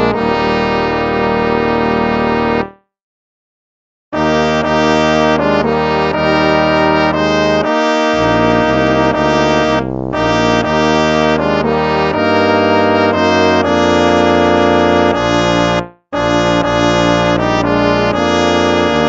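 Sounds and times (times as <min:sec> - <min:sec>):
brass hymn tune: 0:00.0 - 0:02.8, 0:04.2 - 0:19.0.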